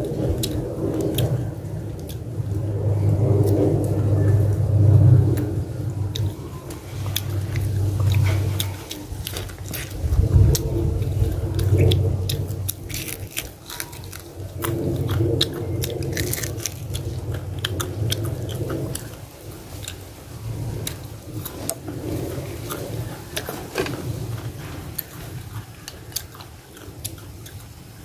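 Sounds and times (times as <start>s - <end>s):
chewing crunchy fried fish: 0.0s - 28.0s.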